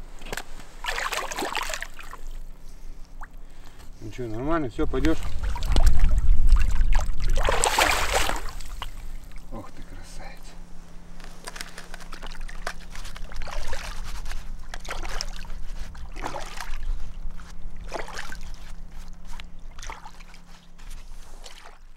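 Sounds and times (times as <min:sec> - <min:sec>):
steady low hum: 0:00.0 - 0:21.9
river water splashing: 0:00.7 - 0:03.4, 0:05.0 - 0:09.7, 0:11.6 - 0:21.9.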